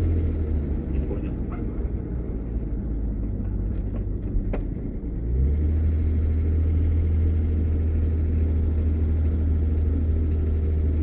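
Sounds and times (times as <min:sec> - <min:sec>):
vehicle cabin drone: 0:00.0 - 0:11.0.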